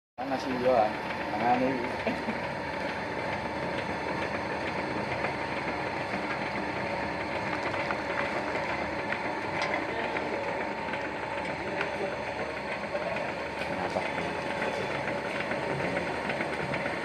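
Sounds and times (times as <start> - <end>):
faint motor hum: 0.2 - 17.0
pellet mill clattering: 0.2 - 17.0.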